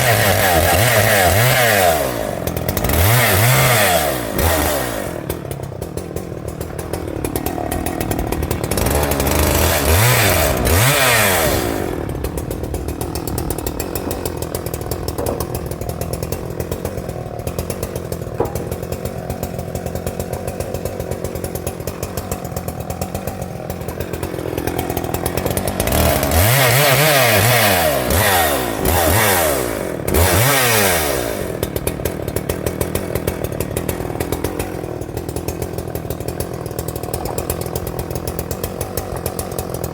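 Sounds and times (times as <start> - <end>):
chainsaw cutting twigs: 0.0 - 39.9
chainsaw idling and revving: 0.0 - 39.9.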